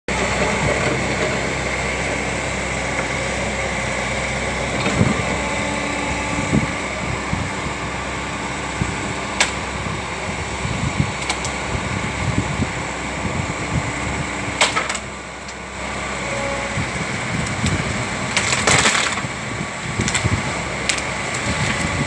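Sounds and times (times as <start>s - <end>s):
machine engine running with whine: 0.1s - 22.0s.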